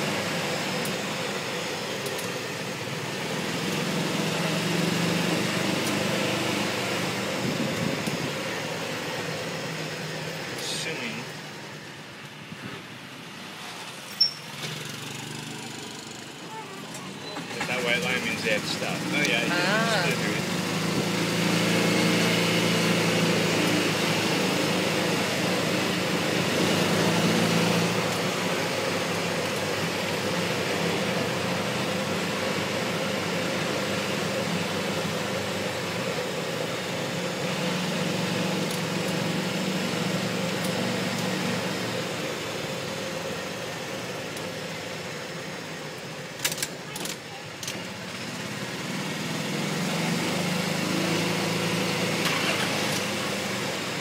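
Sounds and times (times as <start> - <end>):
golf cart engine running: 0.0 - 54.0.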